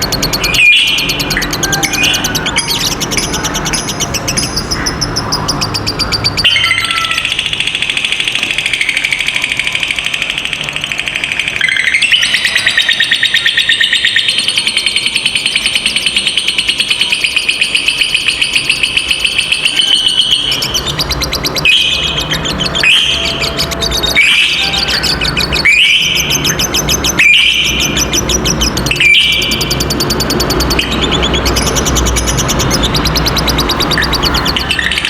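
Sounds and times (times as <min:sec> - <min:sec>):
lovebird chattering trill: 0:00.0 - 0:35.0.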